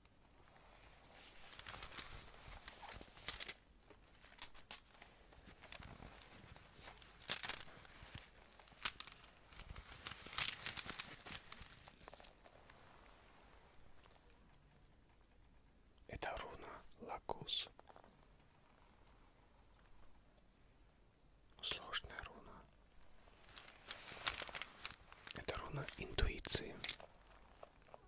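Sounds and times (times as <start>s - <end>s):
rustling and crinkling handling noise: 0.0s - 14.8s, 17.7s - 20.2s, 21.8s - 28.0s.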